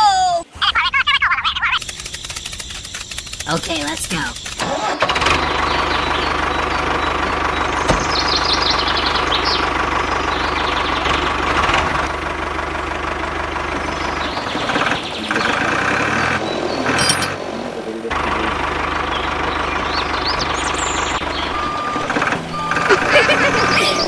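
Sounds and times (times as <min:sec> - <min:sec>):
tractor engine running: 0:01.6 - 0:24.0.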